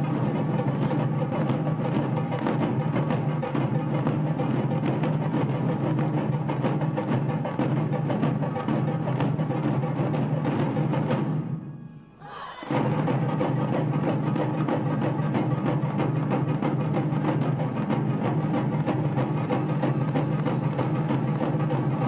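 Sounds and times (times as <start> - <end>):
percussion hits: 0.0 - 22.0.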